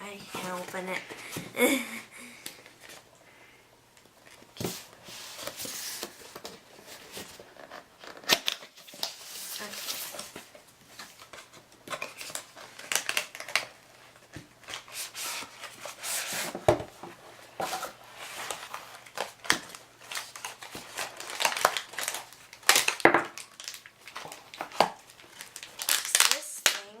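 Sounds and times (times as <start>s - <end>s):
packaging crinkling and rustling: 3.9s - 27.0s.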